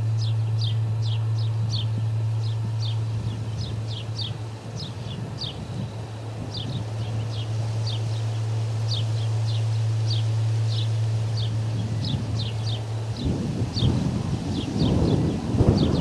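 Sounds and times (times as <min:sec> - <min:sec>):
low hum: 0:00.0 - 0:16.0
wind on microphone: 0:00.6 - 0:09.5, 0:10.1 - 0:16.0.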